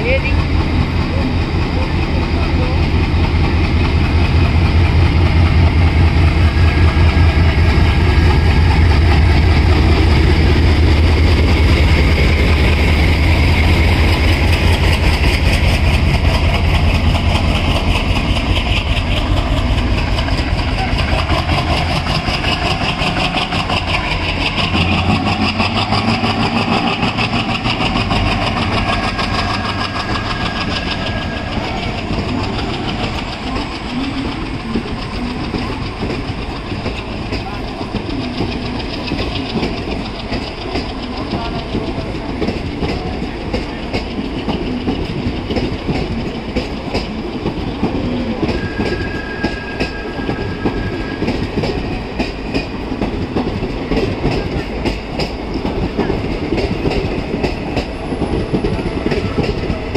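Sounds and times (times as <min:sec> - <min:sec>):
diesel locomotive engine throbbing: 0:00.0 - 0:59.9
train coaches rolling past: 0:00.0 - 0:59.9.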